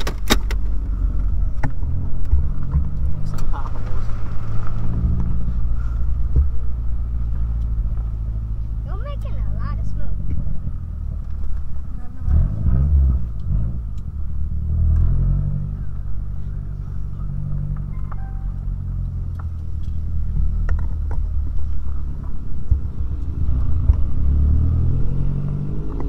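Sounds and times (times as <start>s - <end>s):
car engine: 0.0s - 26.0s
road noise inside car: 0.0s - 26.0s.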